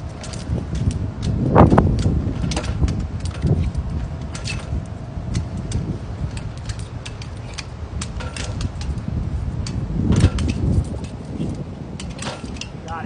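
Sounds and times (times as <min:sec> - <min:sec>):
clinks on metal flagpole: 0:00.0 - 0:13.0
steady low rumble: 0:00.0 - 0:13.0.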